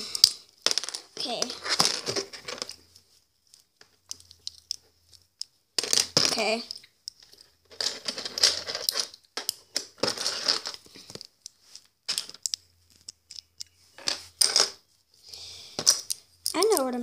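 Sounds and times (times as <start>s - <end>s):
plastic bricks rattling and clicking: 0.2s - 2.8s, 3.5s - 14.8s.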